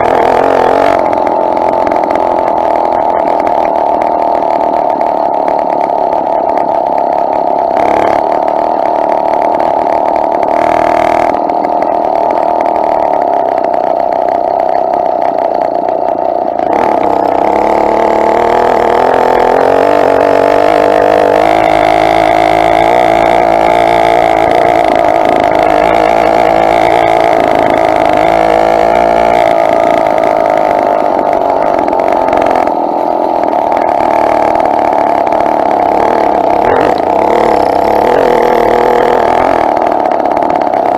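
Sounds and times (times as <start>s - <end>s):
two-stroke bicycle engine running: 0.0s - 40.9s.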